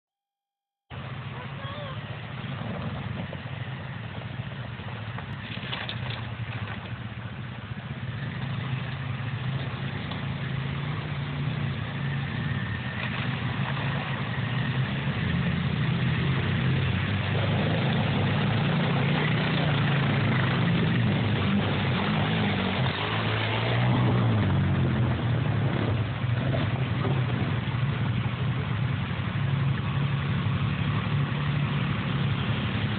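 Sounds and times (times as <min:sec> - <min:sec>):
atv engines running: 0:00.9 - 0:32.9.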